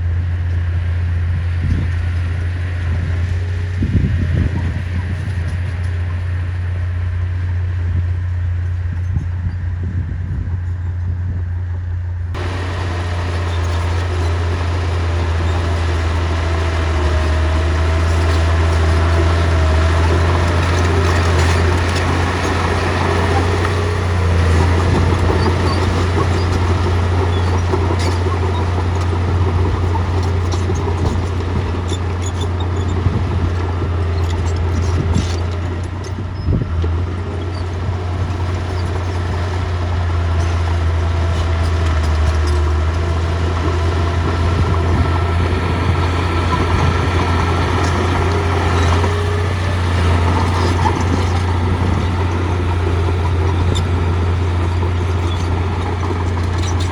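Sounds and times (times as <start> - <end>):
bulldozer diesel engine rumbling: 0.0 - 56.9.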